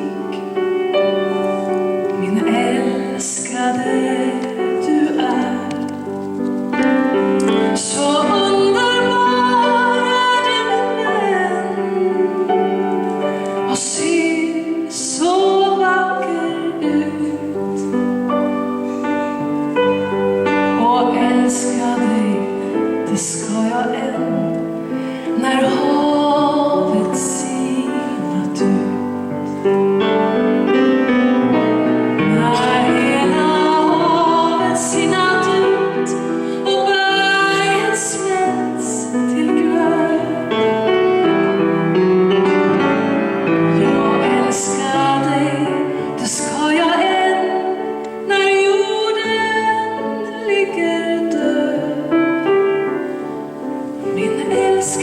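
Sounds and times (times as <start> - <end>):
piano accompaniment: 0.0 - 55.0
woman singing a ballad: 1.9 - 6.4, 7.4 - 18.8, 20.0 - 29.6, 31.9 - 41.6, 43.6 - 52.8, 53.8 - 55.0.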